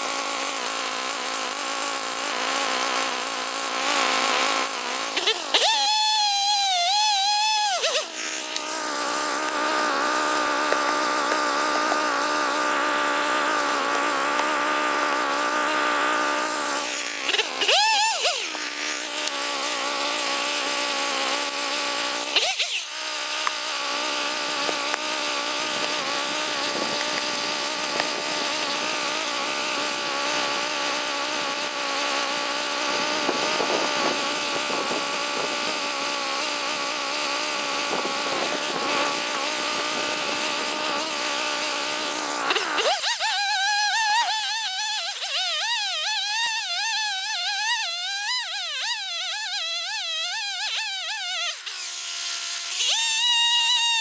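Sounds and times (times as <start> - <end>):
chainsaw engine idling and revving: 0.0 - 54.0.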